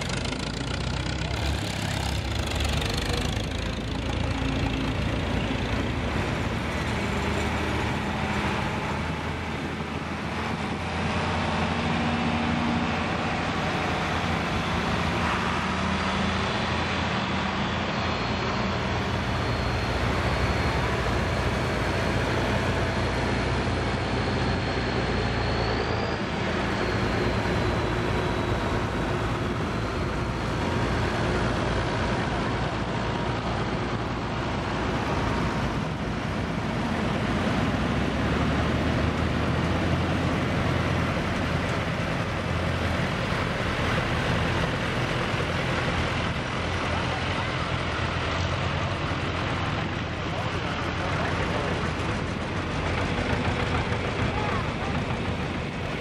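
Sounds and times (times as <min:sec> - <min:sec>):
tractor engines driving past: 0:00.0 - 0:56.0.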